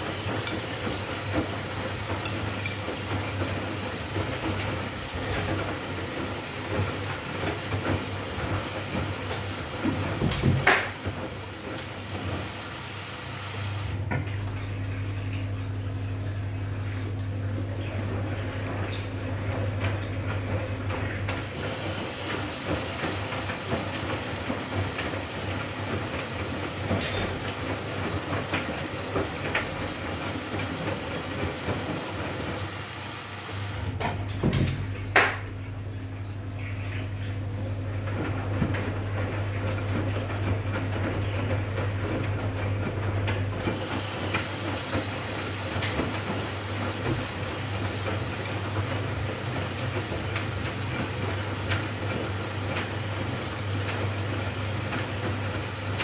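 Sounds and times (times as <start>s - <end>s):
washing machine drum tumbling: 0.0s - 56.0s
washing machine hum: 0.0s - 56.0s.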